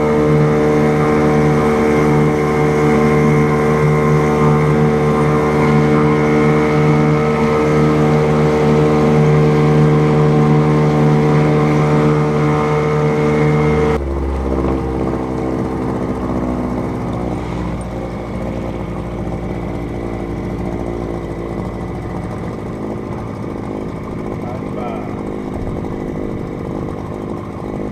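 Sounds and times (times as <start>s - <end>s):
engine running steadily: 0.0s - 27.9s.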